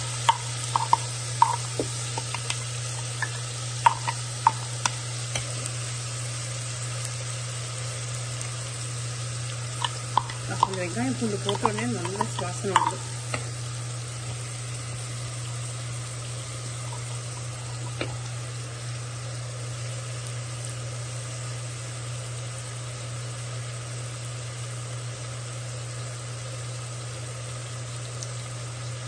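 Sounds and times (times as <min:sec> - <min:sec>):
constant low hum: 0:00.0 - 0:23.4
onions sizzling in hot oil: 0:00.0 - 0:29.0.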